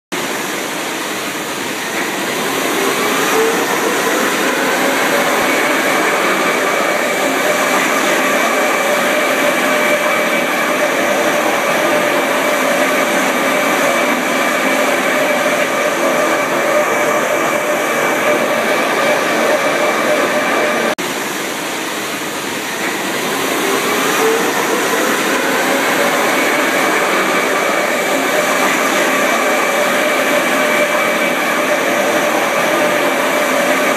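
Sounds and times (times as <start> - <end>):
railcar running noise: 0.1 - 33.9
traction motors whining: 0.2 - 21.0, 22.7 - 33.9.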